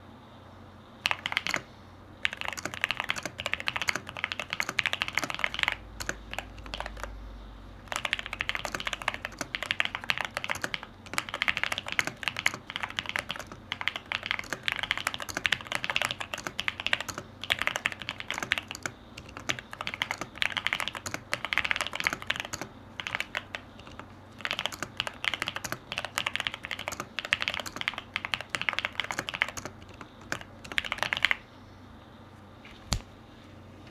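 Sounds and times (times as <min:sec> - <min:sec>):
mechanical keyboard typing: 0:01.0 - 0:31.4.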